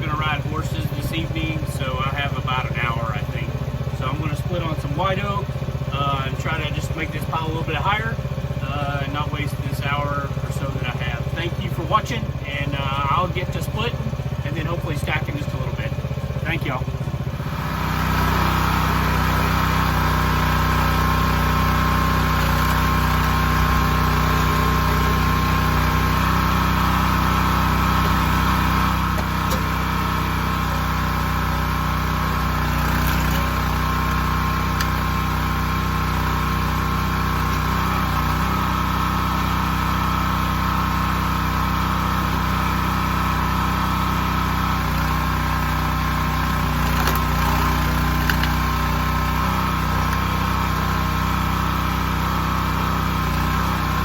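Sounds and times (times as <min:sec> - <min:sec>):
gas engine running: 0:00.0 - 0:54.0.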